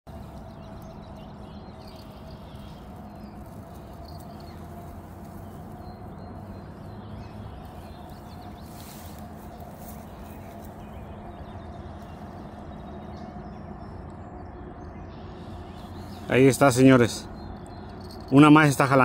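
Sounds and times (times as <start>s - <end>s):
steady low hum: 0.1s - 18.6s
birds chirping: 0.1s - 19.0s.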